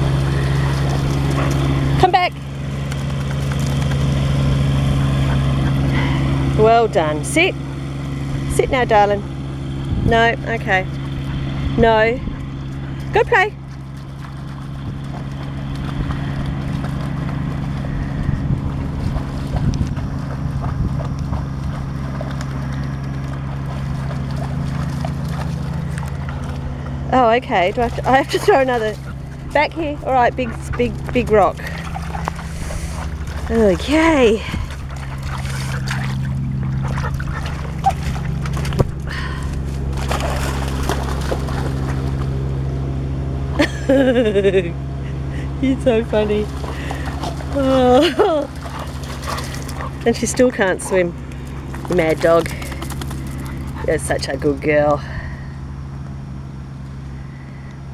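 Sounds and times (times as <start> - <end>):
dog paws splashing in water: 0.0 - 42.7, 46.0 - 55.0
steady low hum: 0.0 - 57.9
steady low rumble: 0.0 - 57.9.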